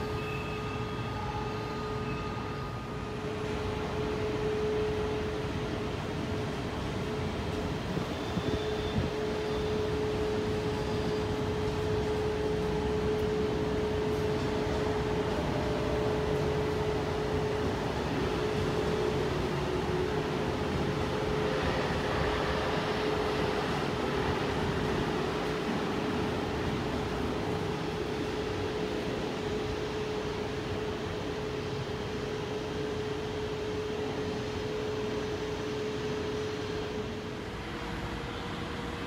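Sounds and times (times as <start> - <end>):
train rumble with droning tone: 0.0 - 39.0.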